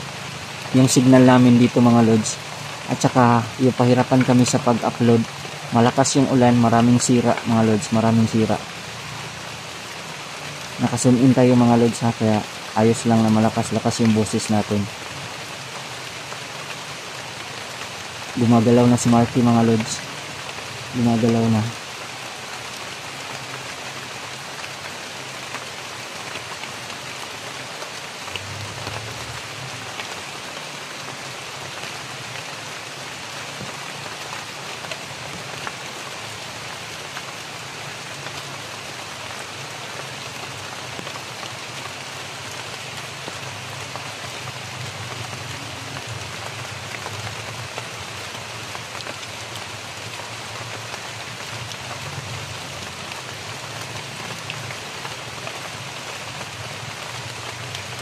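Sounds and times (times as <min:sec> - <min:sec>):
heavy rain on leaves: 0:00.0 - 0:58.0.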